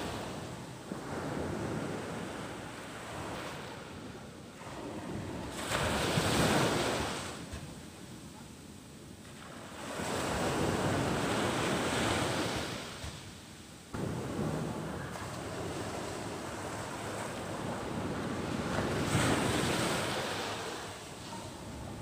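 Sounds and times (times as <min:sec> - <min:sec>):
ocean surf breaking: 0:00.0 - 0:07.6, 0:09.4 - 0:13.3, 0:13.9 - 0:22.0.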